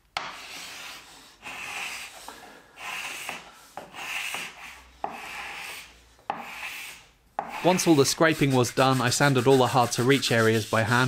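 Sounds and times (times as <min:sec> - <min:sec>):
scraper rasping across wood: 0:00.2 - 0:11.0.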